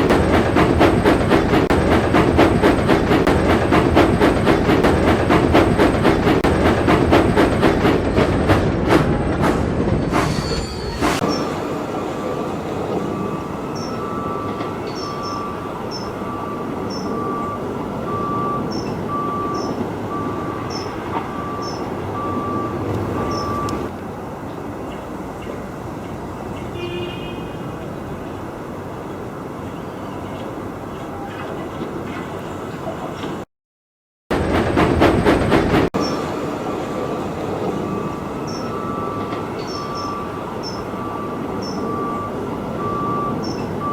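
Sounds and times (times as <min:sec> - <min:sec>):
train rumbling: 0:00.0 - 0:26.8, 0:27.4 - 0:33.5, 0:34.3 - 0:43.9.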